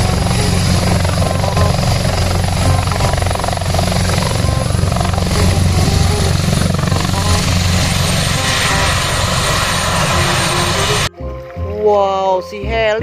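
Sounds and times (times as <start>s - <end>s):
helicopter rotor chopping: 0.0s - 11.1s.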